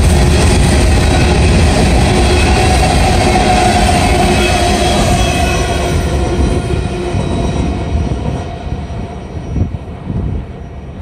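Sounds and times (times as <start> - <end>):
train wheels rolling over rails: 0.0 - 11.0.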